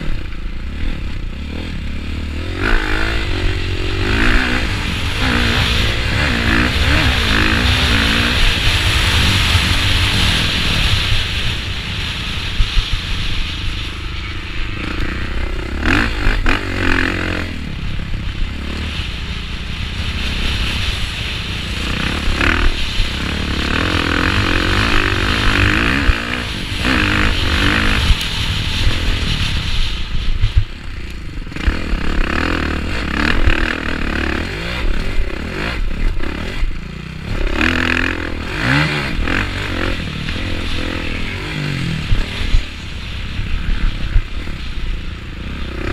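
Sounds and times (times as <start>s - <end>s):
motocross engine revving: 0.0s - 30.2s, 31.1s - 45.9s
low wind rumble: 0.0s - 45.9s.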